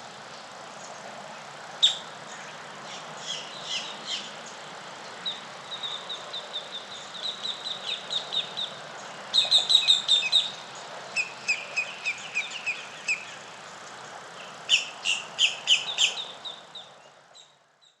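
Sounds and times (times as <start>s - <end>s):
steady outdoor hiss: 0.0s - 18.0s
small birds chirping: 0.2s - 18.0s.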